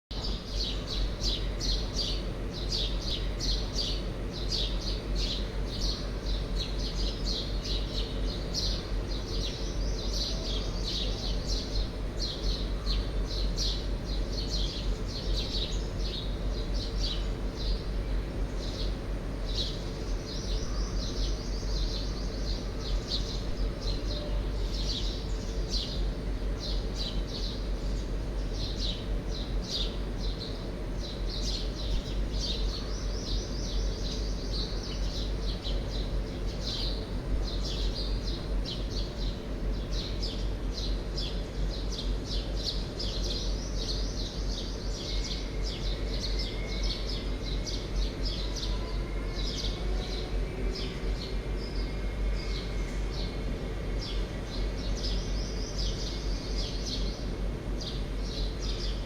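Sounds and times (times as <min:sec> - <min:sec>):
birds chirping: 0:00.1 - 0:59.0
steady low hum: 0:00.1 - 0:59.0.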